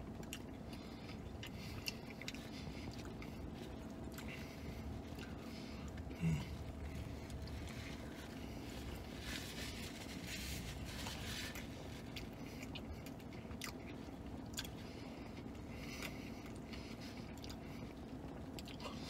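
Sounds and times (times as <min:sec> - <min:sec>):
low steady hum: 0:00.0 - 0:19.0
man chewing food: 0:00.0 - 0:19.0.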